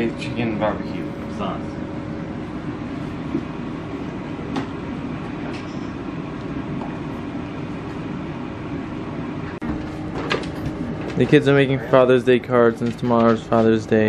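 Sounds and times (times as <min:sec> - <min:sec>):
steady mechanical rumble: 0:00.0 - 0:14.0.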